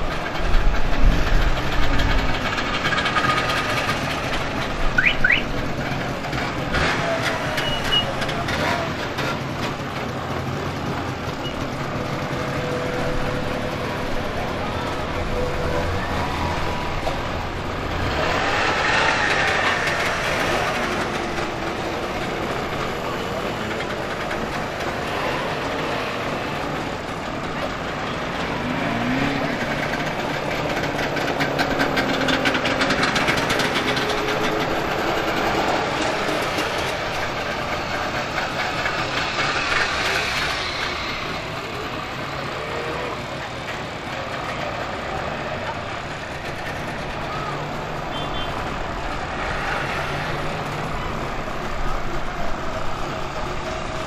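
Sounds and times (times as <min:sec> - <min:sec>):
two-stroke car engines rattling: 0:00.0 - 0:54.0.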